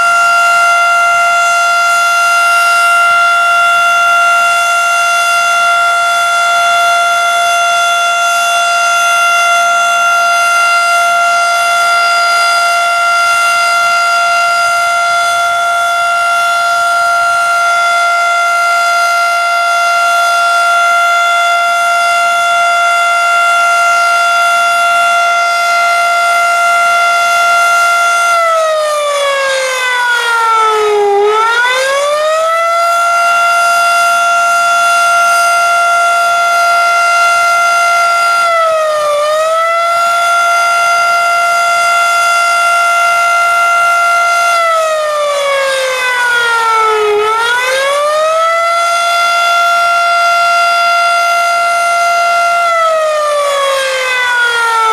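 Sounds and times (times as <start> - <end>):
civil defense siren wailing: 0.0 - 54.9.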